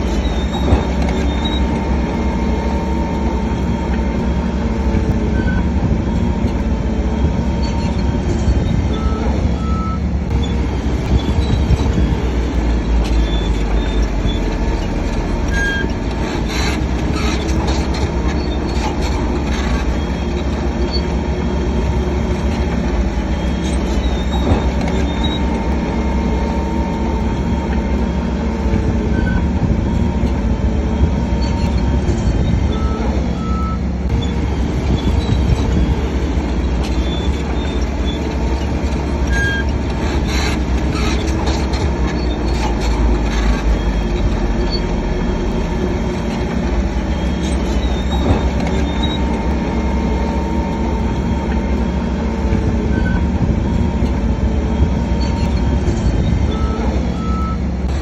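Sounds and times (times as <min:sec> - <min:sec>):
diesel engine rumble: 0:00.0 - 0:58.0
steel tracks squealing and clattering: 0:00.0 - 0:58.0.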